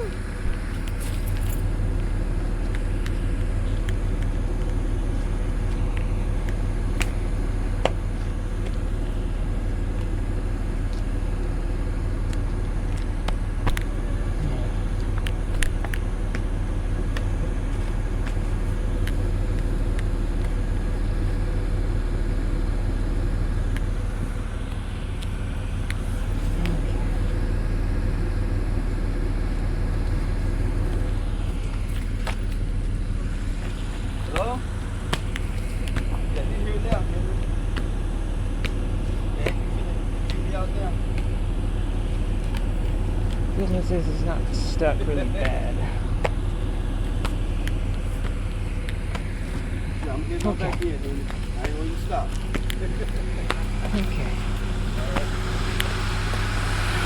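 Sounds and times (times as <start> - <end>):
vehicle engine idling: 0.0 - 57.0.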